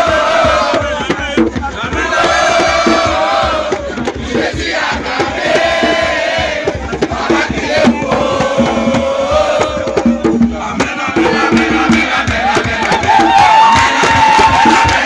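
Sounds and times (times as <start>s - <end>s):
crowd singing and chanting: 0.0s - 15.0s
rhythmic percussion beat: 0.0s - 15.0s.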